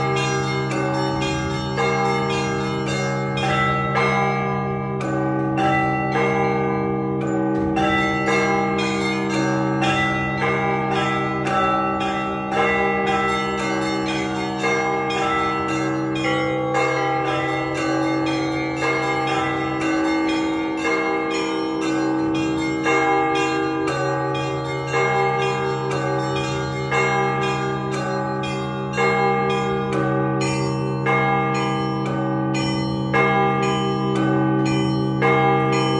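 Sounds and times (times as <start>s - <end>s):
large deep bells ringing: 0.0s - 35.9s.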